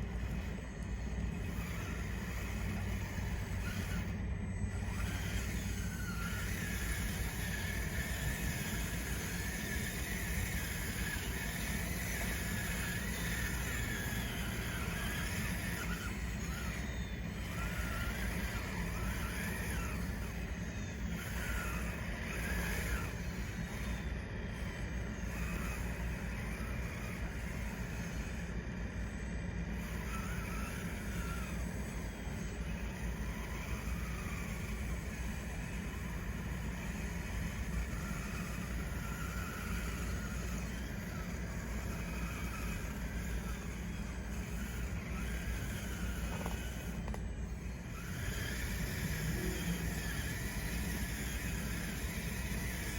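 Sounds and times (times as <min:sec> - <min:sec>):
small electric motors whining: 0:00.0 - 0:52.9.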